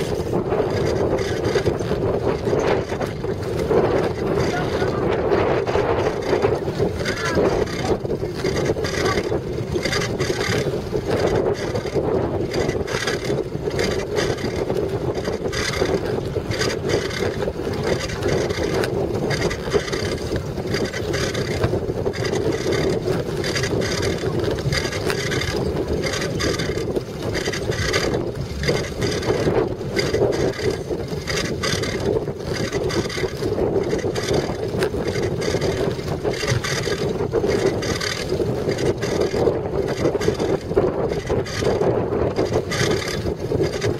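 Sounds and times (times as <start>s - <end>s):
bicycle frame rattling: 0.0s - 43.9s
bicycle tyres rumbling: 0.0s - 43.9s
wind on microphone: 0.0s - 43.9s.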